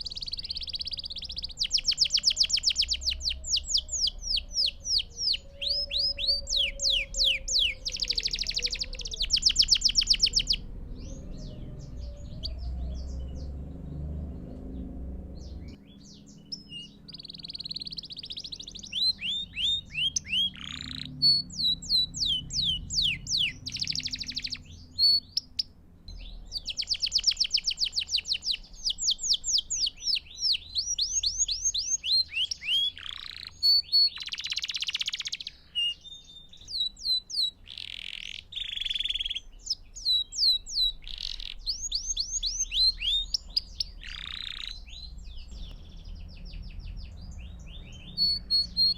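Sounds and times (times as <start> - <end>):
canary singing: 0.0 - 48.9.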